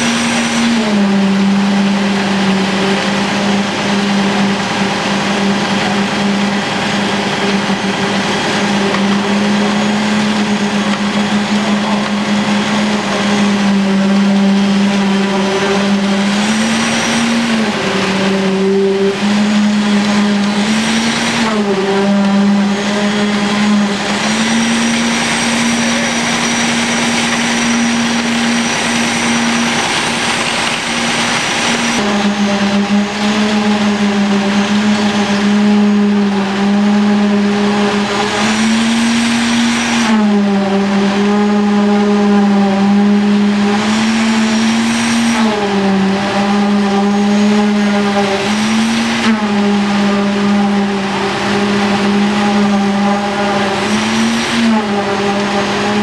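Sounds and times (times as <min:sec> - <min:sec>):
machine motor humming: 0:00.0 - 0:56.0.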